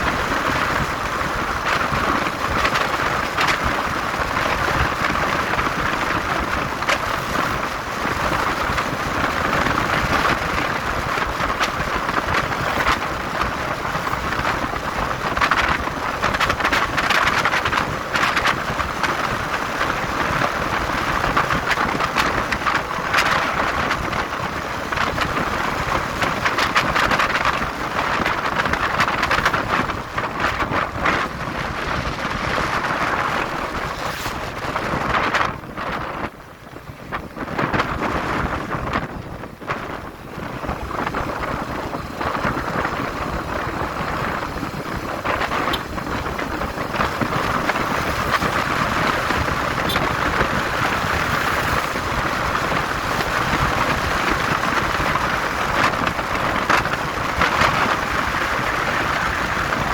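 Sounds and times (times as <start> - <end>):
motorcycle engine and road noise: 0.0 - 59.9
wind rushing over microphone: 0.0 - 59.9.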